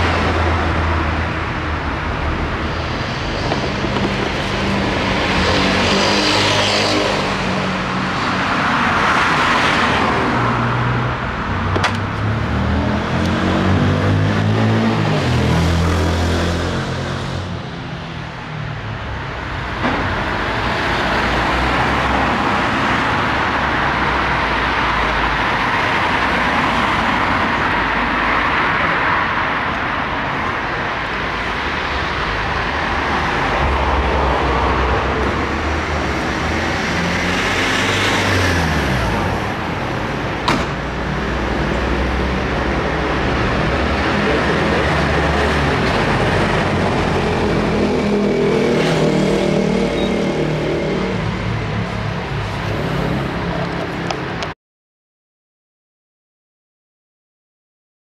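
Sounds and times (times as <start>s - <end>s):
passing vehicles: 0.0s - 54.6s.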